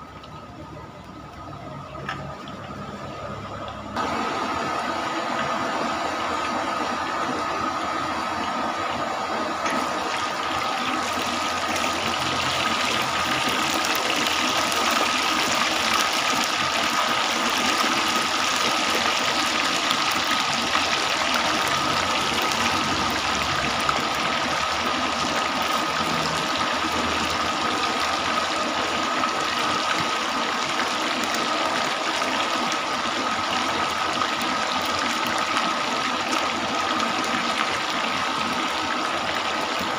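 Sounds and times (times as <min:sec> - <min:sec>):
chicken sizzling in hot oil: 0:02.8 - 0:39.9.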